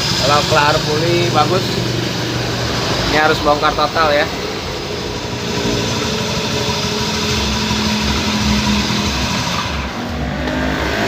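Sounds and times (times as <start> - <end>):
rough buzzing drone: 0.0 - 11.0
scooter engine running: 0.0 - 11.0.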